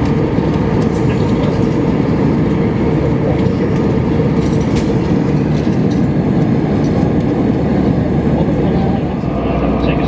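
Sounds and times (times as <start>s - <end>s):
aircraft cabin engine and airflow noise: 0.0s - 10.0s.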